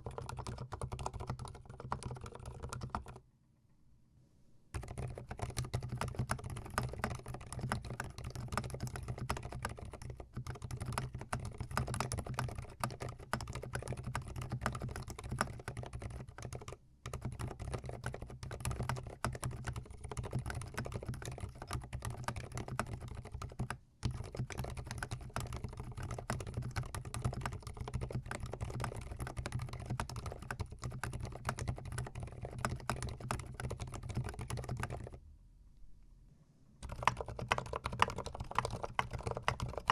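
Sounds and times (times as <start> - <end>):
fast mechanical keyboard typing: 0.0 - 3.2, 4.8 - 35.2, 36.8 - 39.9.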